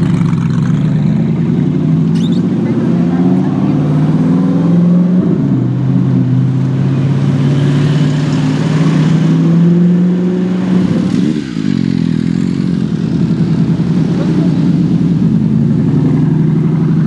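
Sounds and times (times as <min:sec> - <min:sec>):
loud car engine revving: 0:00.0 - 0:17.0.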